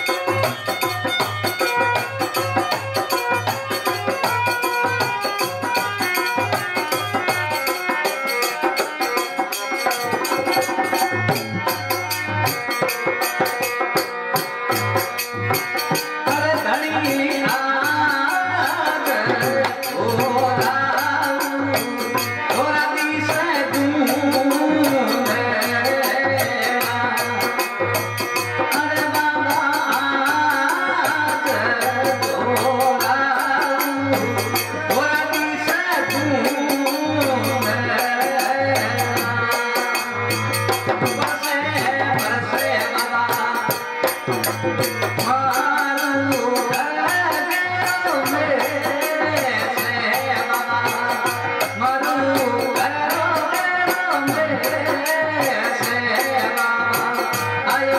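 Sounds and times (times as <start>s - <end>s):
harmonium melody: 0.0s - 57.9s.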